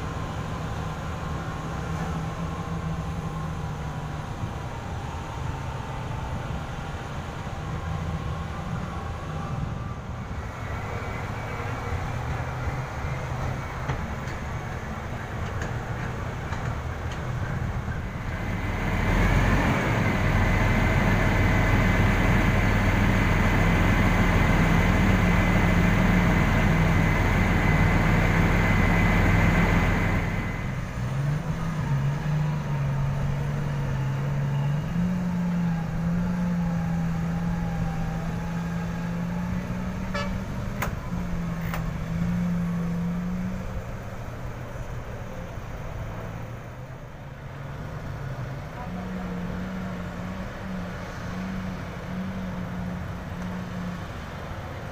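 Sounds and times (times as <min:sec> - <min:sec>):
diesel truck engine running: 0:00.0 - 0:54.9.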